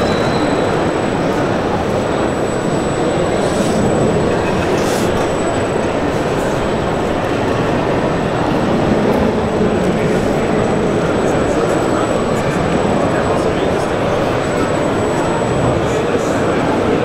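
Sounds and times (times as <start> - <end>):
rumbling din of exhibition hall: 0.0 - 17.0.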